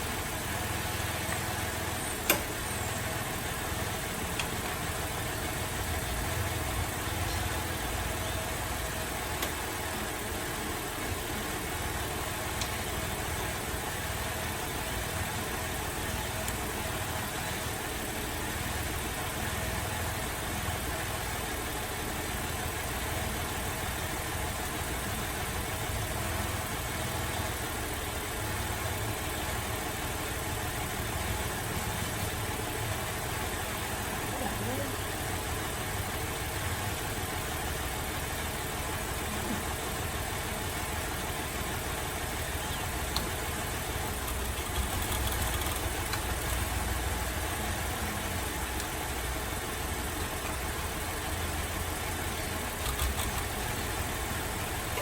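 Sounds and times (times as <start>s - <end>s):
engine idling rough with misfire: 0.0s - 55.0s.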